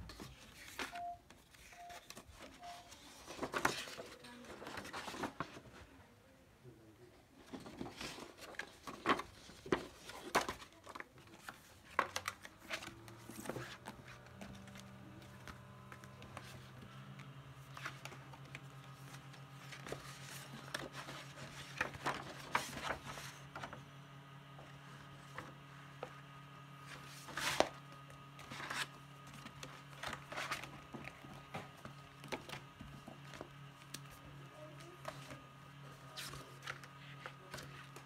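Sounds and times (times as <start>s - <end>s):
paper rustling and crinkling: 0.0s - 5.9s, 7.4s - 23.8s, 24.8s - 38.0s.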